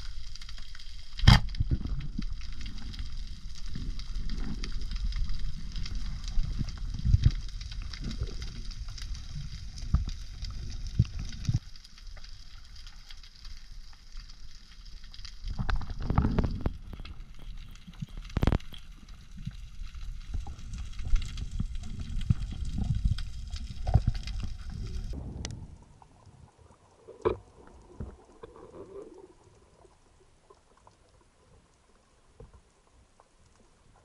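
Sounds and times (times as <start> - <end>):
underwater rumble of moving water: 0.0 - 34.0.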